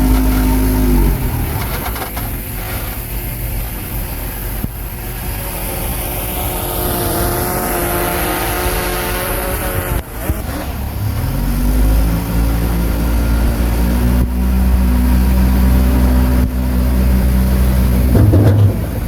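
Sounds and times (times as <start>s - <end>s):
bulldozer diesel engine running: 0.0s - 7.6s, 10.0s - 19.0s.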